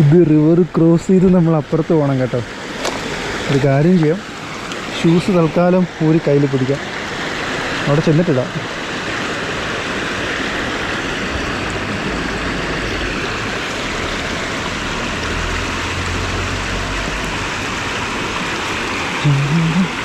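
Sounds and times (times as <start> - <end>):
river water rushing over rocks: 0.7 - 20.0.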